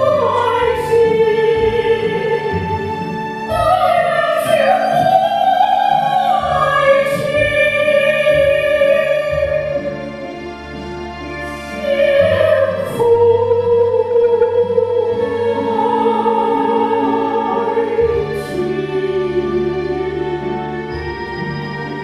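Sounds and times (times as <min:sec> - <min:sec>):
women singing operatic duet: 0:00.0 - 0:10.3, 0:11.6 - 0:21.8
instrumental accompaniment: 0:00.0 - 0:22.0.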